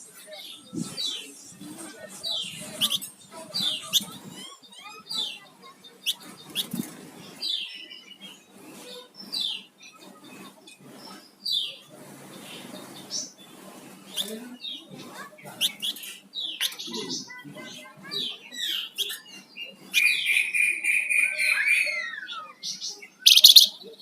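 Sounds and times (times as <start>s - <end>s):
songbird chirping: 0.0s - 24.0s.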